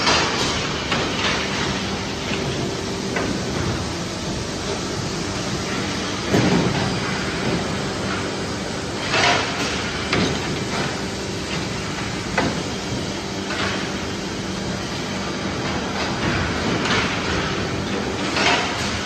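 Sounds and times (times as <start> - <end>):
thermoforming machine hum: 0.0 - 19.0.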